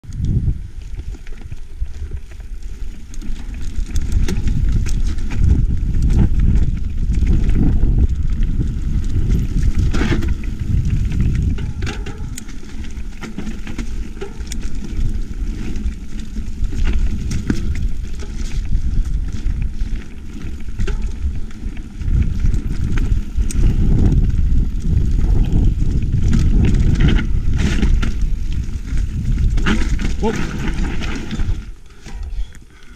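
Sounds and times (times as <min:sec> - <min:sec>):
wind on microphone: 0:00.0 - 0:13.6, 0:14.2 - 0:32.6
bike clattering over stones: 0:00.2 - 0:32.9
tyres rumbling on gravel: 0:00.3 - 0:32.9.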